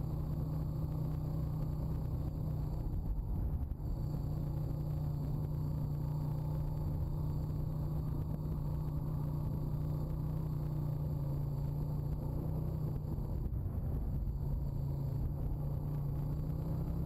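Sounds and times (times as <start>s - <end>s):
atv engine low rumble: 0.0s - 17.0s.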